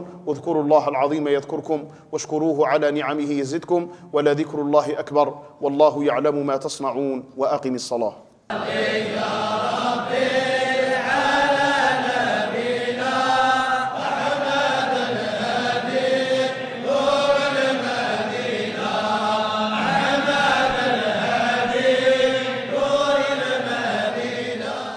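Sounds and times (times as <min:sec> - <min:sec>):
devotional chanting: 0:00.0 - 0:24.9.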